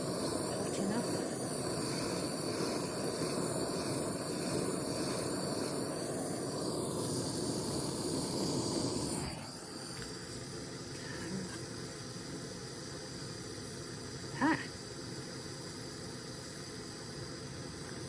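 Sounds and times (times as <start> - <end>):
gas torch flame hissing: 0.0 - 18.0.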